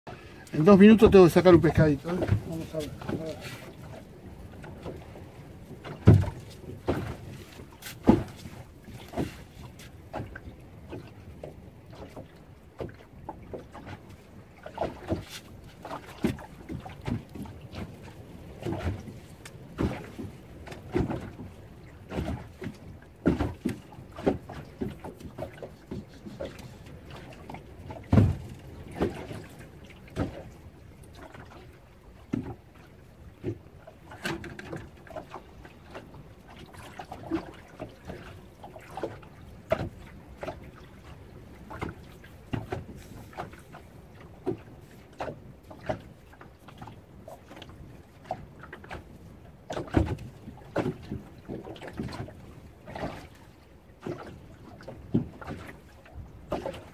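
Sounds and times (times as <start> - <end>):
water slapping boat hull: 0.0 - 56.9
knocks and splashes: 0.1 - 56.9.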